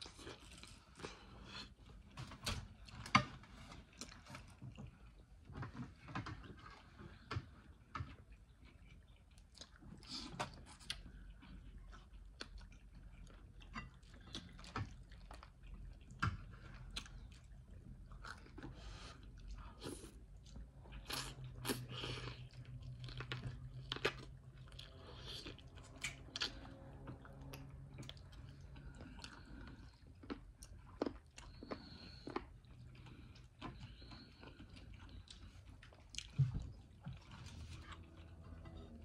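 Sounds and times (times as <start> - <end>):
faint low hum: 0.0 - 39.0
person chewing food: 0.0 - 39.0.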